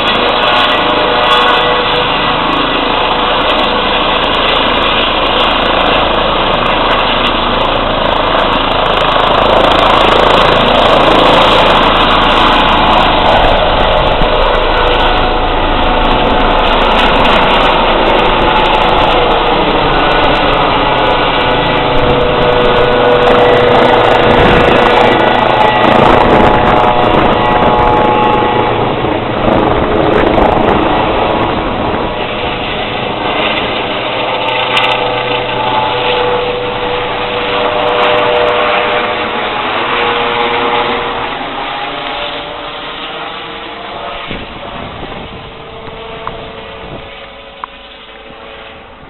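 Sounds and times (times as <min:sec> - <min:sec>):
helicopter turbines and rotor: 0:00.0 - 0:49.0
steady turbine whine: 0:00.0 - 0:49.0.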